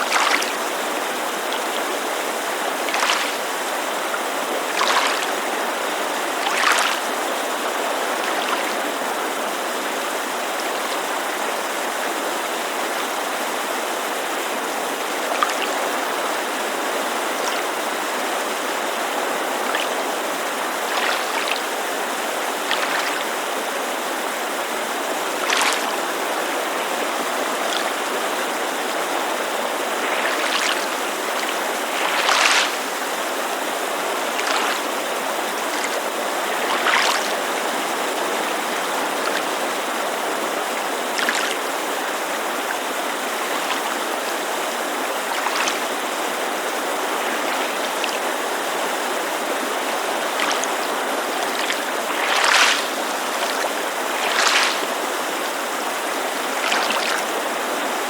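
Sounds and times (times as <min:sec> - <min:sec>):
creek rushing: 0:00.0 - 0:58.0
small waves splashing on shore: 0:00.0 - 0:58.0.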